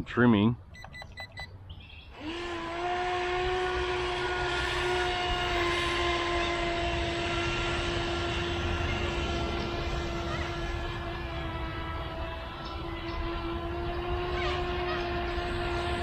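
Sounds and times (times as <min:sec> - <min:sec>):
toy boat motor whining: 0:02.1 - 0:16.0.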